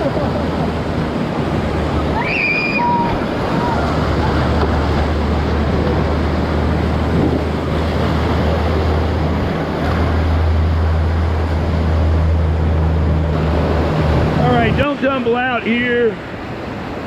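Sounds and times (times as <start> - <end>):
wind rumbling on microphone: 0.0 - 15.0
river rapids rushing: 0.0 - 17.0.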